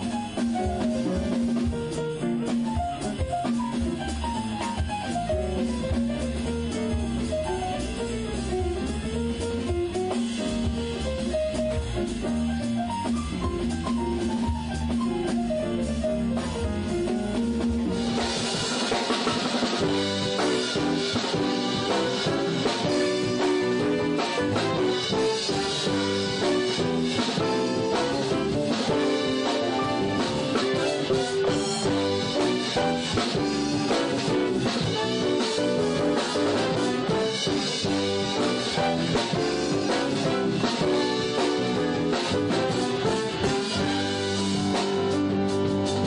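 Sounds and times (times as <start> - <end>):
cymbals: 0.0 - 46.0
drum kit: 0.0 - 46.0
live band music: 0.0 - 46.0
piano: 0.0 - 46.0.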